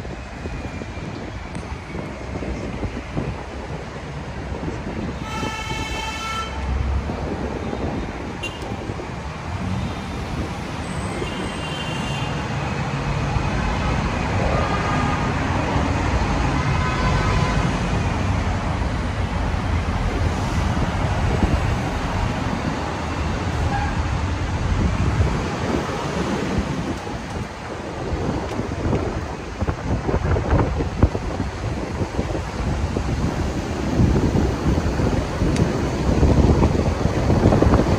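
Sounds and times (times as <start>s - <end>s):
road noise: 0.0s - 37.9s
street traffic rumble: 0.0s - 37.9s.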